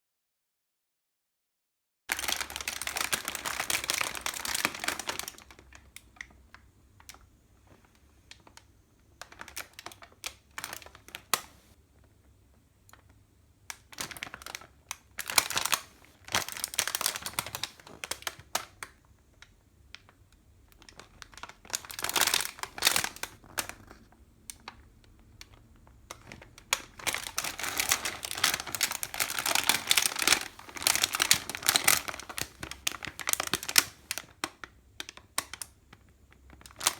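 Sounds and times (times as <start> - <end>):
plastic snack bag crinkling: 2.1 - 7.2, 9.2 - 11.8, 13.7 - 36.9.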